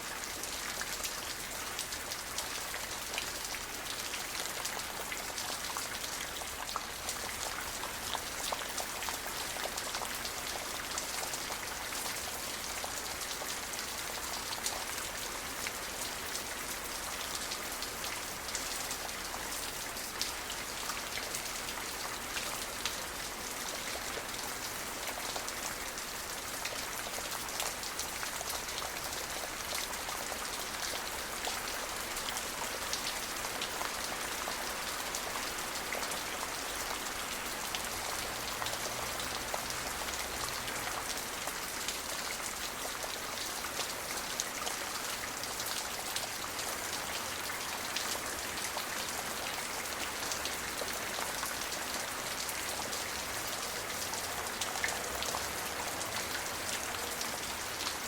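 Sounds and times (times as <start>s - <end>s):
rain falling: 0.0s - 58.0s
raindrops ticking on a surface: 0.1s - 58.0s.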